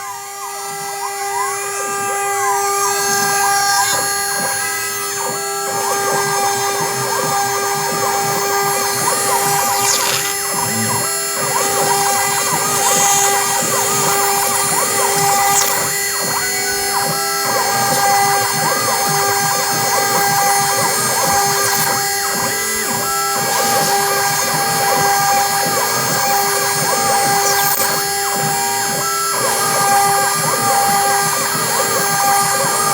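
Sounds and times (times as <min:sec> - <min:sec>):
router spindle whine: 0:00.0 - 0:32.9
stepper motors whining: 0:00.0 - 0:32.9.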